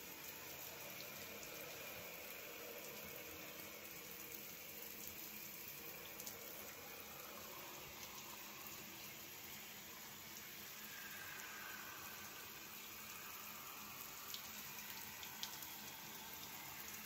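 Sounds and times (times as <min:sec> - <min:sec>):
shower spray on wet shirt: 0:00.0 - 0:17.0.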